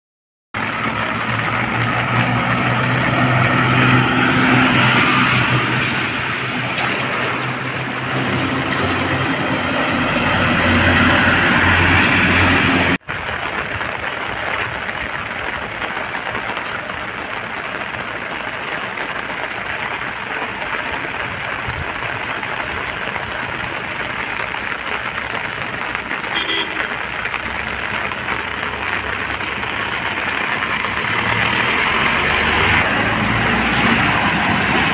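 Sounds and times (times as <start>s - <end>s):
heavy rain: 0.6s - 34.9s
moving floodwater: 0.6s - 34.9s
truck engine driving through water: 0.6s - 34.9s.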